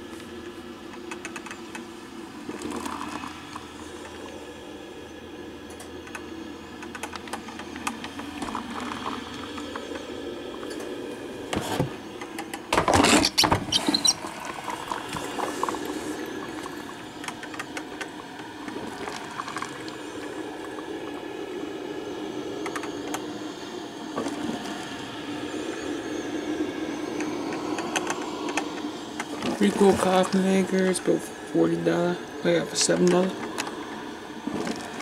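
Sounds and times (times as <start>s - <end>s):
coffee maker gurgling: 0.0s - 35.0s.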